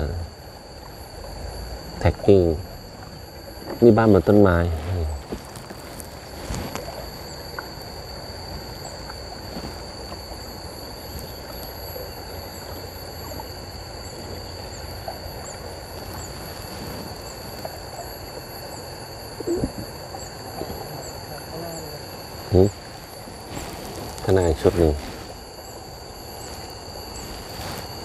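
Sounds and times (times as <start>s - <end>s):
high-pitched whine: 0.0s - 28.0s
river water gurgling: 0.0s - 28.0s.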